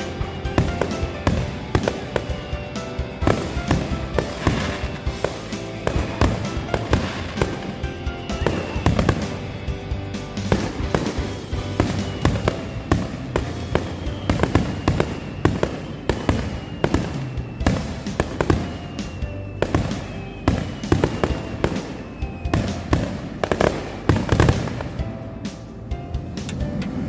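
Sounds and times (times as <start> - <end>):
fireworks bangs and crackling: 0.0 - 27.0
music: 0.0 - 27.0.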